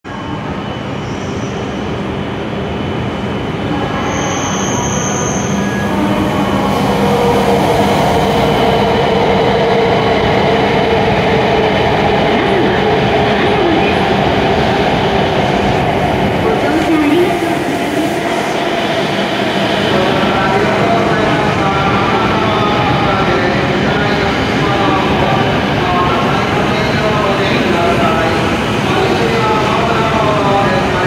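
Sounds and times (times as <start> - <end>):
train running noise: 0.1 - 31.0.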